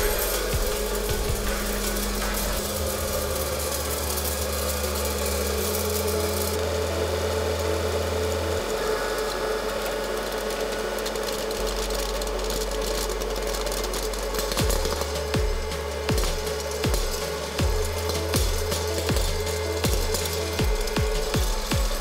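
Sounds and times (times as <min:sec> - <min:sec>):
popcorn popper fan humming: 0:00.0 - 0:22.0.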